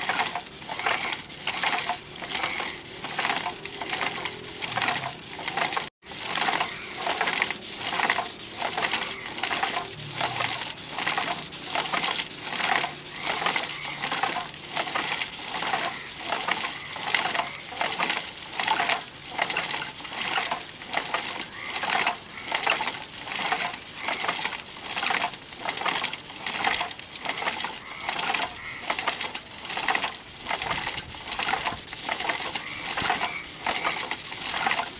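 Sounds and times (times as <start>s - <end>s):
abrasive pad rasping on lathe: 0.0s - 34.9s.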